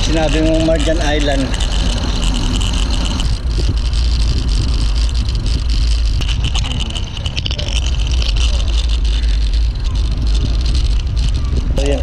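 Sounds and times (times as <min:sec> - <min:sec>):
tyre and road noise: 0:00.0 - 0:12.0
wind rumbling on microphone: 0:00.0 - 0:12.0.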